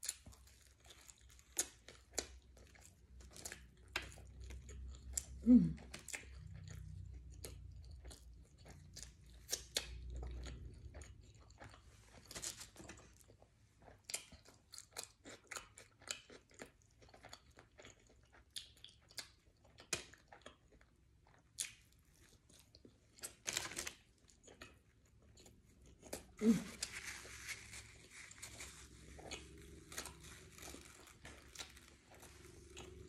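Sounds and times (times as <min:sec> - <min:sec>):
crunchy chewing: 0:00.0 - 0:33.0
wet chewing: 0:00.0 - 0:33.0.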